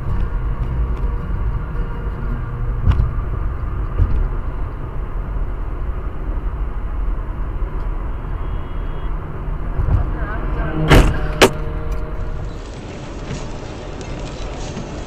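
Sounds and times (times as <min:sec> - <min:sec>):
car road and tyre noise: 0:00.0 - 0:15.0.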